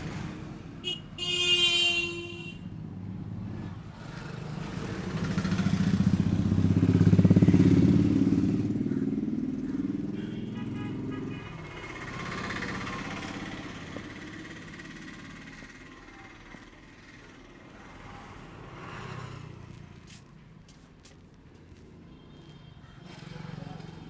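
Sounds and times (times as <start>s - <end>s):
road vehicles passing: 0.0s - 24.0s.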